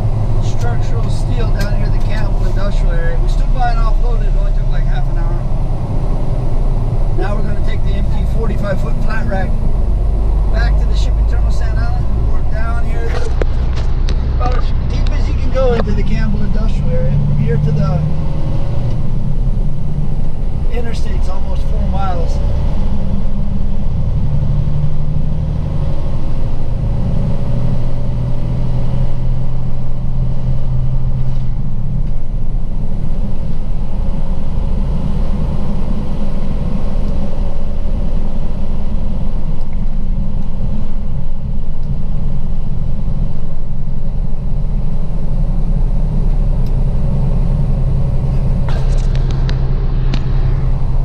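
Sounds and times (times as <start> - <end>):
diesel truck engine rumble: 0.0 - 51.0.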